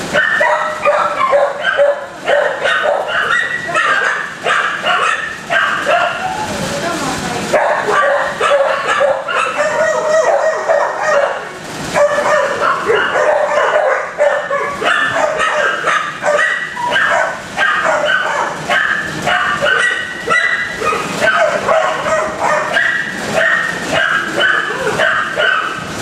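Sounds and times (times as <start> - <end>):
many dogs barking: 0.0 - 6.6, 7.5 - 26.0.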